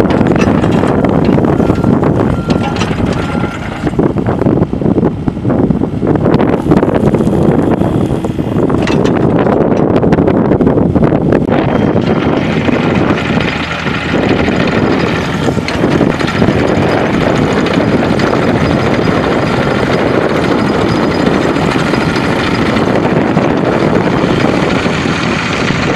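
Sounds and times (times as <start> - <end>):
mini excavator diesel engine running: 0.0 - 25.9.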